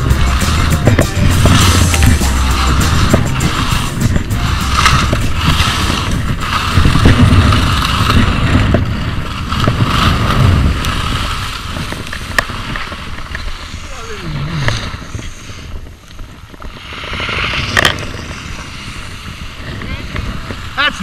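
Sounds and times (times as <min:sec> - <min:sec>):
skis hissing through snow: 0:00.0 - 0:21.0
wind buffeting microphone: 0:00.0 - 0:21.0.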